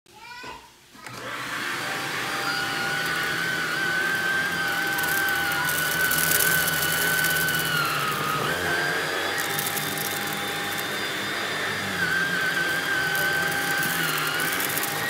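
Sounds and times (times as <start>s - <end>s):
vacuum cleaner motor whine: 1.0s - 15.0s
rice rattling through vacuum: 1.6s - 15.0s.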